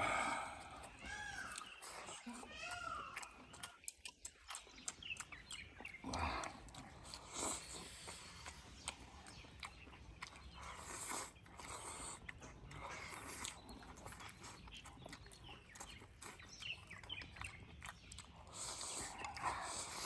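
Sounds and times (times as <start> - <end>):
people chewing: 0.0 - 20.0.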